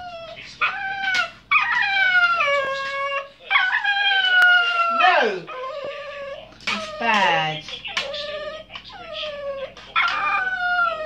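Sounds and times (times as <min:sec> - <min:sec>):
small dog howling: 0:00.0 - 0:11.0.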